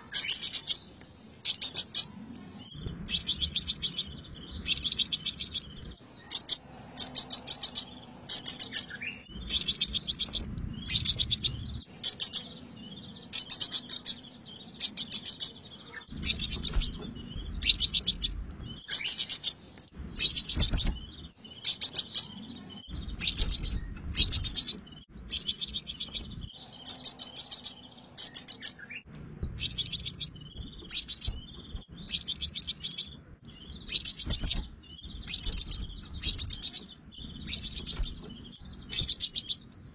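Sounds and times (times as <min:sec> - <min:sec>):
bird singing high trilled chips: 0:00.0 - 0:39.9.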